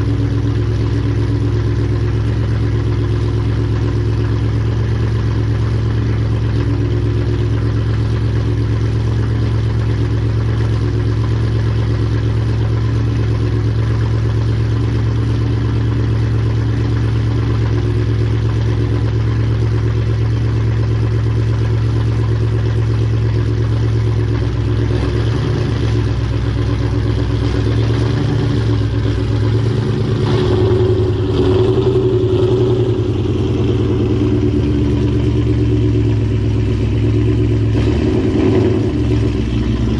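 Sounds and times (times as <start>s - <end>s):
car engine exhaust drone: 0.0s - 39.9s.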